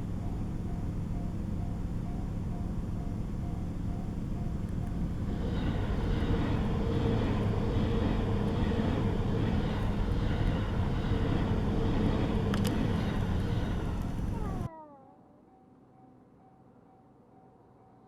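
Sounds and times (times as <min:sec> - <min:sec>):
faint steady tone: 0:00.0 - 0:14.7
train rumbling at speed: 0:00.0 - 0:14.7.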